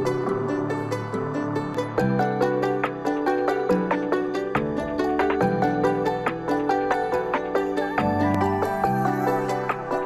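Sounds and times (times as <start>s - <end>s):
instrumental pop music: 0.1s - 10.0s.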